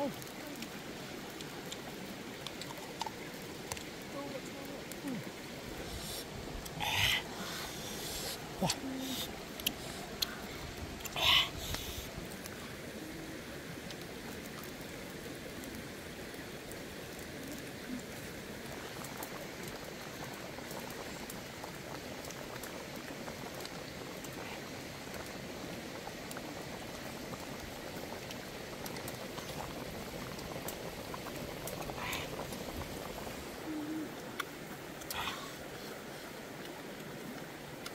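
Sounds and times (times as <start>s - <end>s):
faint crackles: 0.0s - 37.9s
pot of curry boiling: 4.8s - 37.3s.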